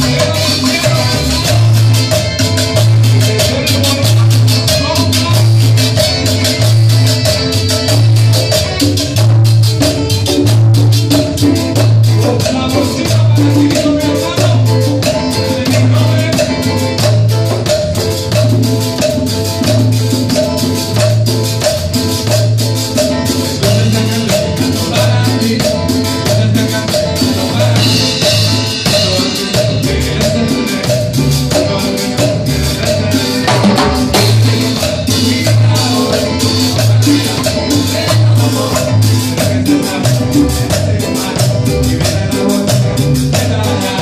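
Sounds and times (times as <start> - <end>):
drum kit: 0.0 - 44.0
pulsing bass line: 0.0 - 44.0.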